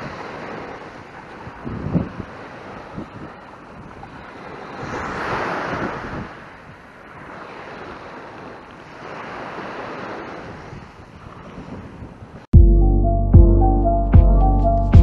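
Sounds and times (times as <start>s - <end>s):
waves washing onto beach: 0.0s - 12.5s.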